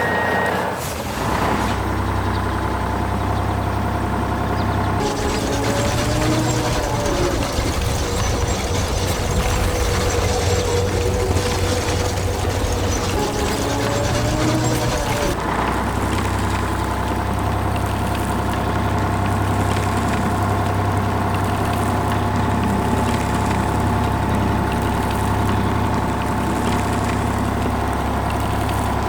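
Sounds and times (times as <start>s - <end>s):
construction vehicle engine idling: 0.0s - 29.0s.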